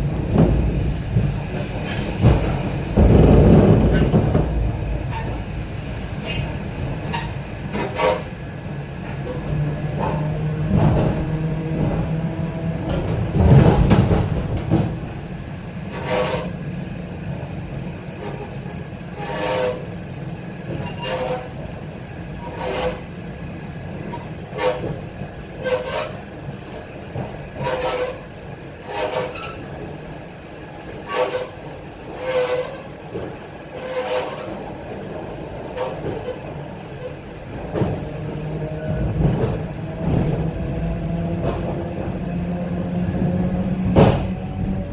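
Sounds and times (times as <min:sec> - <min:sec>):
train rolling noise: 0:00.0 - 0:44.9.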